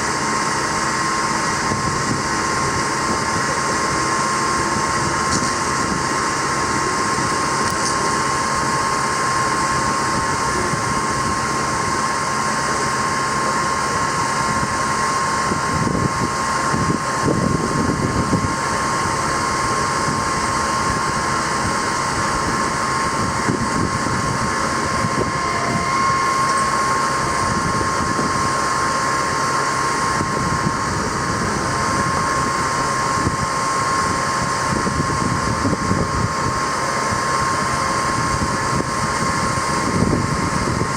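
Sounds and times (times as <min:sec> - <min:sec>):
constant high whine: 0:00.0 - 0:40.9
diesel truck engine running: 0:00.0 - 0:40.9.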